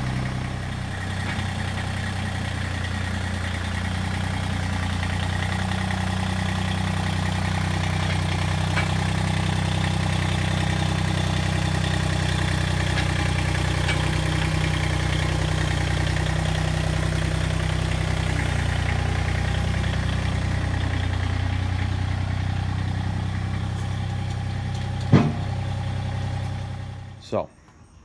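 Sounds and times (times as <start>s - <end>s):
tractor diesel engine idling: 0.0s - 27.5s.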